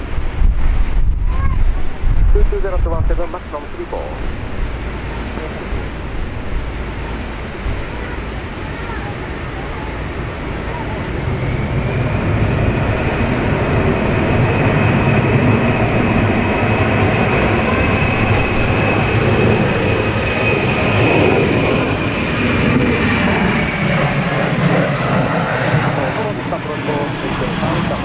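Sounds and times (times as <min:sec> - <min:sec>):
jet roar with high whine: 0:00.0 - 0:28.0
wind buffeting microphone: 0:00.0 - 0:28.0.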